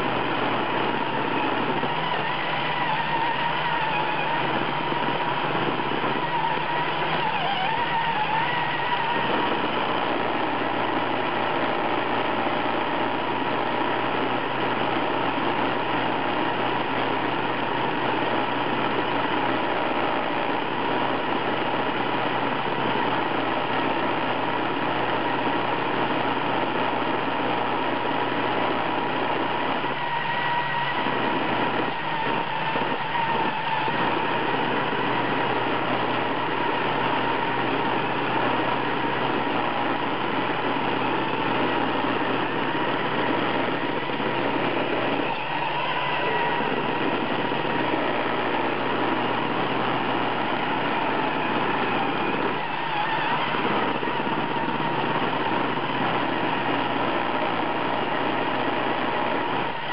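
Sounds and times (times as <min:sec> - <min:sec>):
high whine: 0:00.0 - 0:59.9
robot vacuum whirring: 0:00.0 - 0:59.9.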